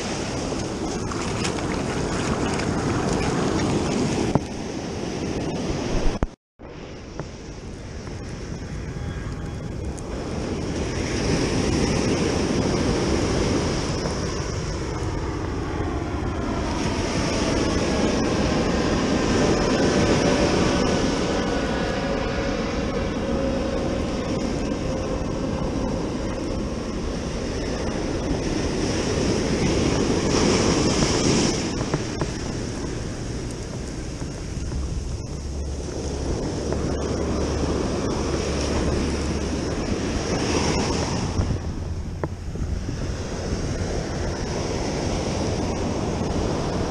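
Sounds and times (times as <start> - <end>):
jet aircraft passing overhead: 0.0 - 46.9
ocean surf breaking: 0.0 - 46.9.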